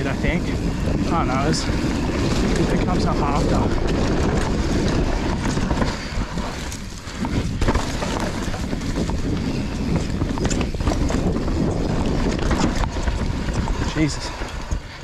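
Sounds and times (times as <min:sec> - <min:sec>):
bike rattling over bumps: 0:00.0 - 0:15.0
tyres crunching over dirt: 0:00.0 - 0:15.0
wind rushing over microphone: 0:00.0 - 0:15.0.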